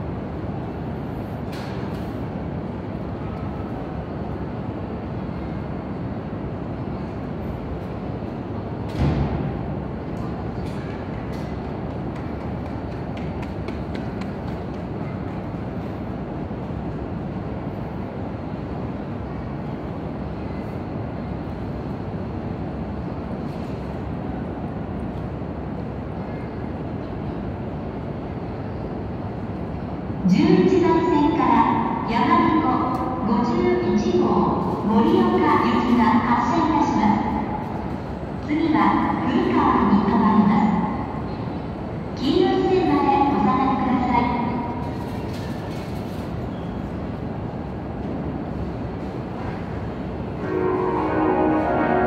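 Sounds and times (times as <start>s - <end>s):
train standing humming: 0.0s - 52.0s.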